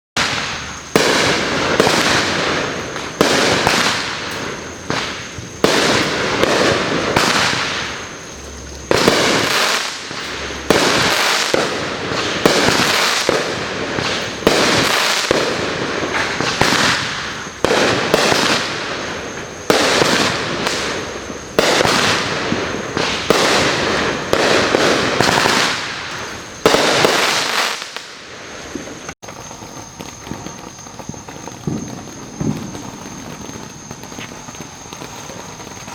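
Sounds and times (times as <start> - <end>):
firework bangs: 0.2 - 35.9
firework crackle and hiss: 0.2 - 35.9.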